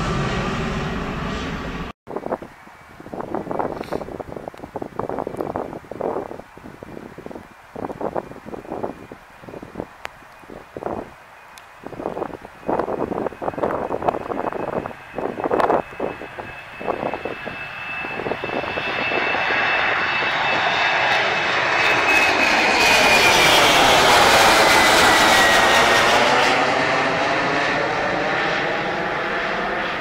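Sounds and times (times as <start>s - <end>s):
jet engines passing overhead: 0.0s - 30.0s.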